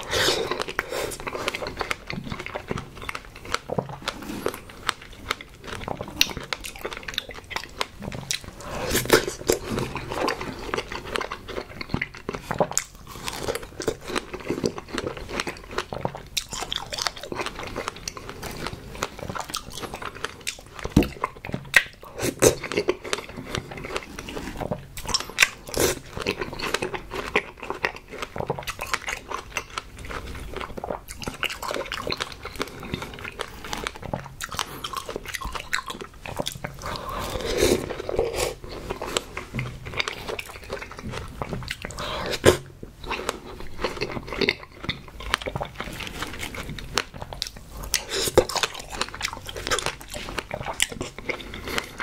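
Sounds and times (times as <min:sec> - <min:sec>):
wet chewing and mouth smacks: 0:00.0 - 0:52.0.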